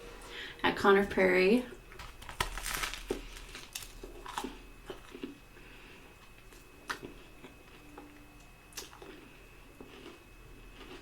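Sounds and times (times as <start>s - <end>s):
person chewing food: 1.9s - 11.0s.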